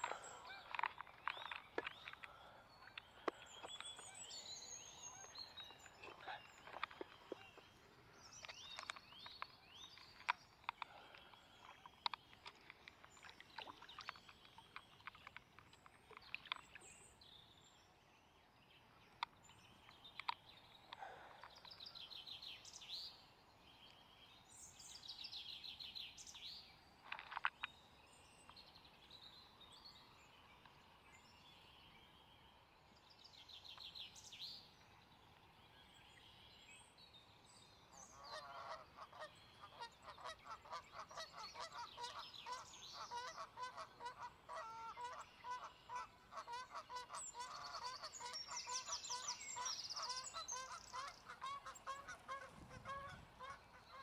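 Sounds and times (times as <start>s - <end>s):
birds chirping and trilling: 0.0s - 17.9s, 18.8s - 54.0s.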